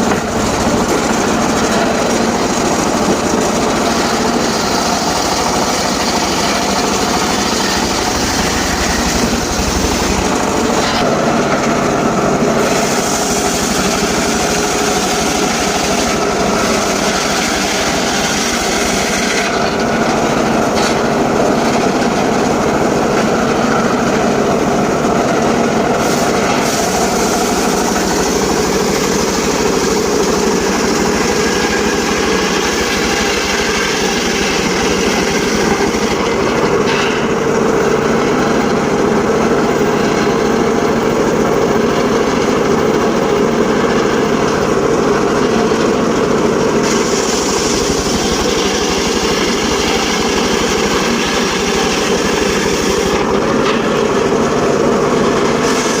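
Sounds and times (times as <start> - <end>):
circular saw engine drone: 0.0 - 56.0.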